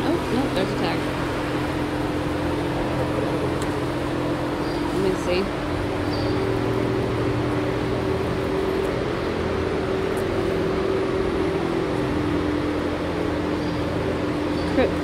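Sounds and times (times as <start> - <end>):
ventilation fan hum: 0.0 - 15.0.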